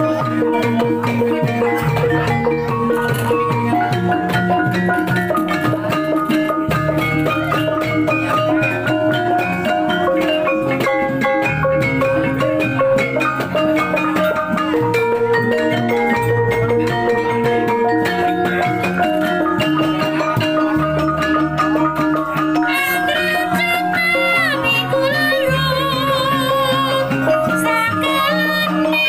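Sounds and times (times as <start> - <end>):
kettle gongs struck in melodic patterns: 0.0 - 29.0.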